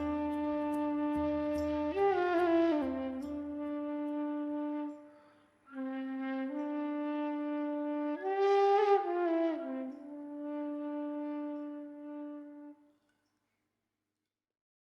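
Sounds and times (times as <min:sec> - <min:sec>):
wind instrument sustained notes: 0:00.0 - 0:12.8.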